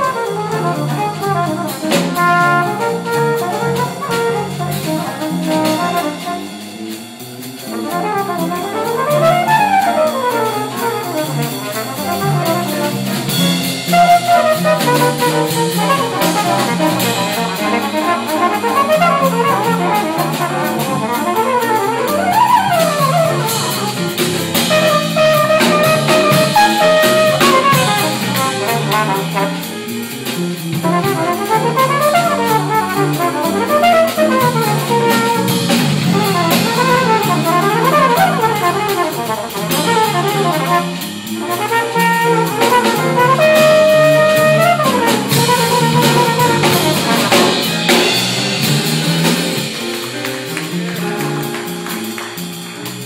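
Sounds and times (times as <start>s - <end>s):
trumpet solo: 0.0s - 6.6s, 7.6s - 30.1s, 30.7s - 48.4s
drum kit with cymbals: 0.0s - 53.0s.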